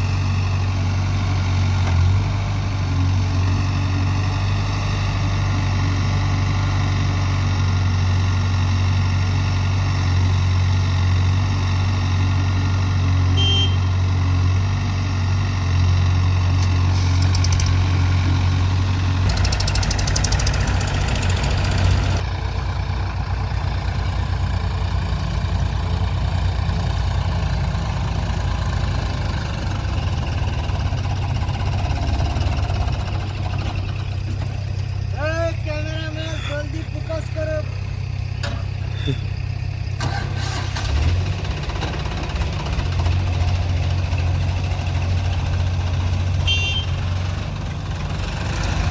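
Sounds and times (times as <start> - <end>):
heavy diesel engine droning: 0.0 - 48.9.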